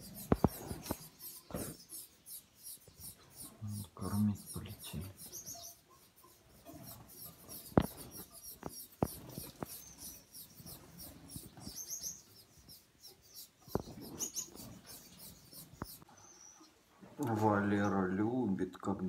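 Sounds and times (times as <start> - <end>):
finches chirping: 0.0 - 18.2.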